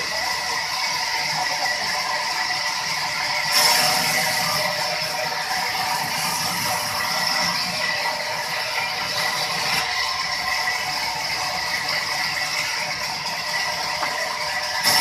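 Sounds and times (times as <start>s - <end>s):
band saw whining: 0.0s - 15.0s.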